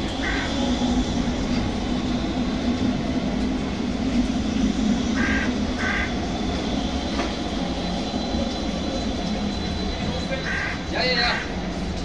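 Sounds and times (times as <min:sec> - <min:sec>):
tram wheels on rails: 0:00.0 - 0:12.0.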